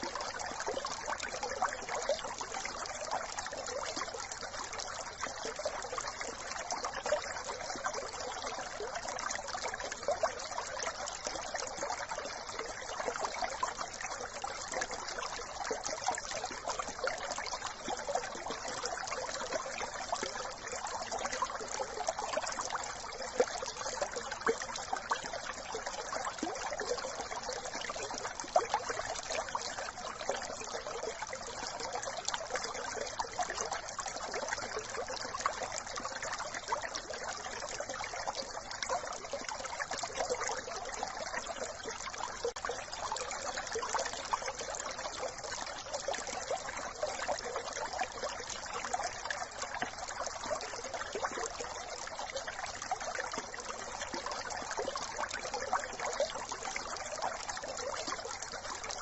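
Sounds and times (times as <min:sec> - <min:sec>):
brook trickling and babbling: 0:00.0 - 0:59.0.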